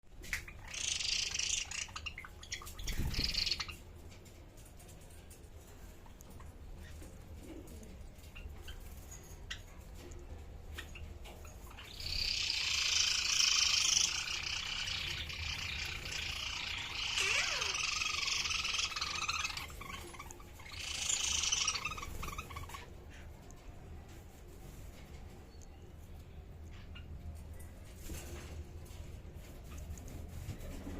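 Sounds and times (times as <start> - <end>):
birds chirping and chattering: 0.1 - 30.9.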